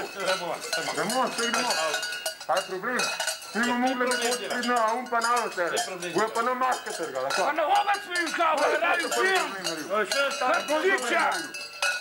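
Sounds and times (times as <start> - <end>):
loud talking voices: 0.0 - 11.8
bells and chains jingling: 0.0 - 12.0.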